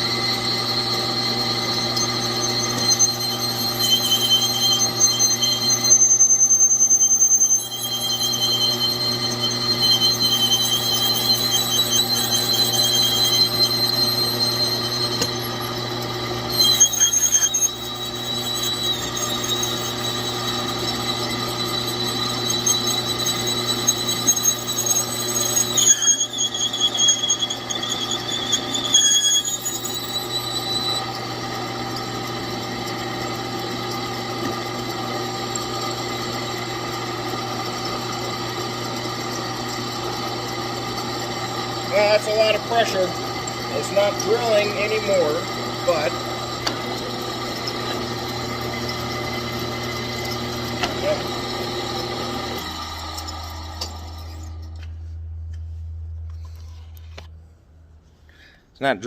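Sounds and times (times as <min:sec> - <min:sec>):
drill motor hum: 0:00.0 - 0:57.3
drill bit squealing on steel: 0:00.0 - 0:57.4.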